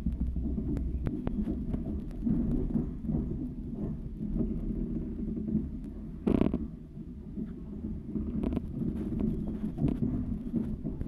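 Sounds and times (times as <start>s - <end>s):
train running gear rumble: 0.0s - 11.0s.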